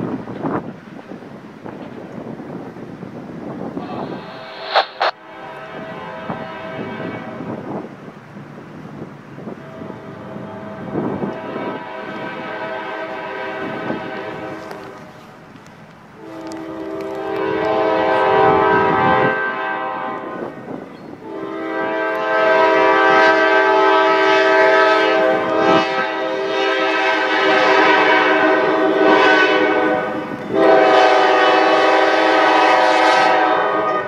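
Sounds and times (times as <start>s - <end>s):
locomotive air horn blasts: 3.8s - 7.9s, 9.4s - 15.3s, 16.2s - 34.0s.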